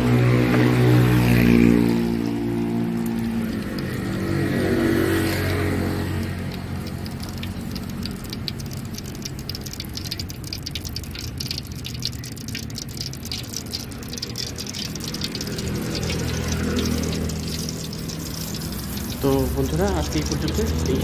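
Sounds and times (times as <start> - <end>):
oil sizzling in a wok: 0.0 - 21.0.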